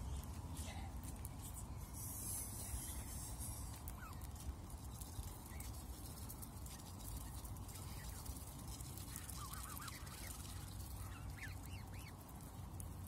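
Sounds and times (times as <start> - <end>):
goslings peeping: 2.1 - 13.0.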